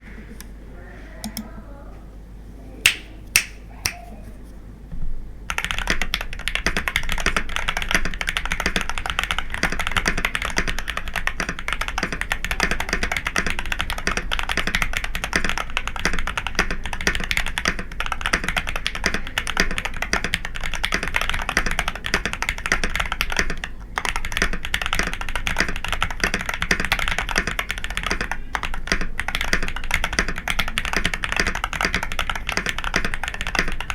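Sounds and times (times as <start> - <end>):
mechanical keyboard typing: 5.5 - 33.9.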